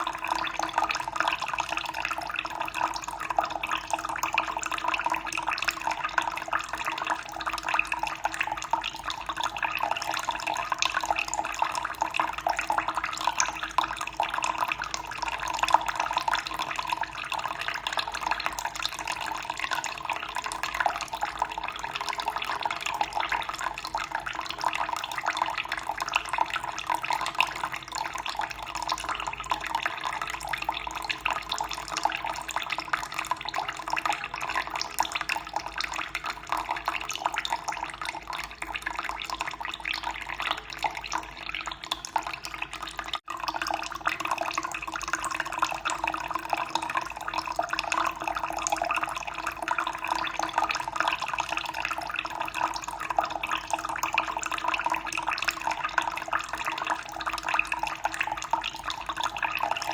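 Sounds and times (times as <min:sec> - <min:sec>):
water pouring into water: 0:00.0 - 0:59.9.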